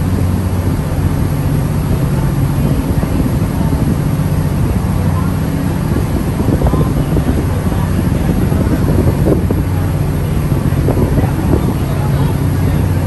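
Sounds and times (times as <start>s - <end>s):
ferry engine humming: 0.0s - 13.0s
wind noise on microphone: 0.0s - 13.0s.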